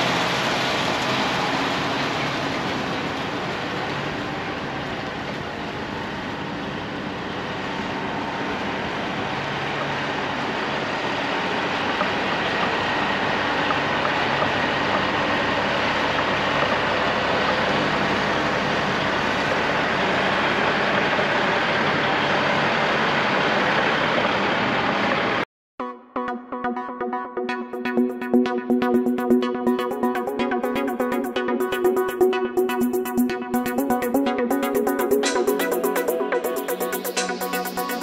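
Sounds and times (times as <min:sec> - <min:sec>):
heavy diesel machinery running: 0:00.0 - 0:25.4, 0:27.9 - 0:38.0.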